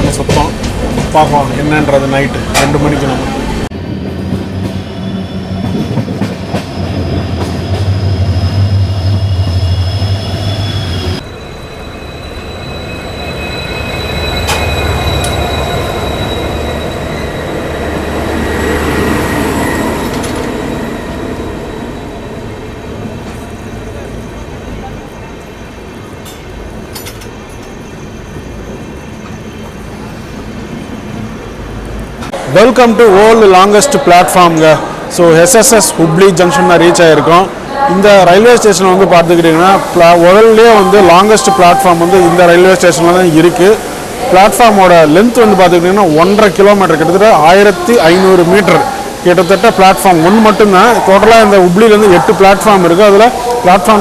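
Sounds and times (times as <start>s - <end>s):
train wheels squealing and rumbling: 0.0s - 54.0s.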